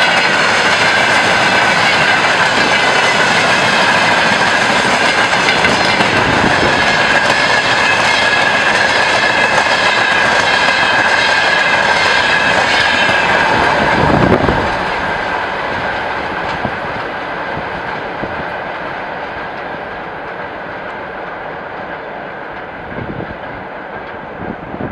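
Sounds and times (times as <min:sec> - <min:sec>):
train rumble: 0:00.0 - 0:24.9
train wheels ringing on rails: 0:00.0 - 0:24.9.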